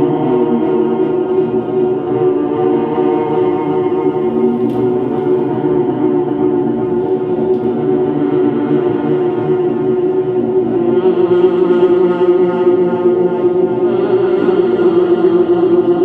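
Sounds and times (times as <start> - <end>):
droning sustained chord: 0.0 - 16.0.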